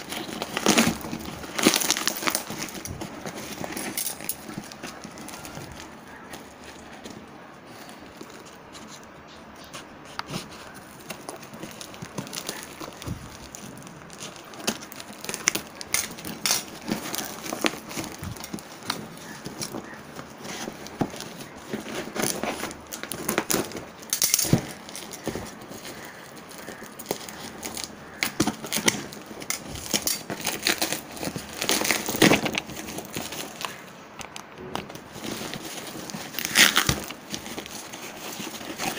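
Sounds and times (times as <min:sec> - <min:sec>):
bubble wrap crinkling and tearing: 0:00.0 - 0:38.9.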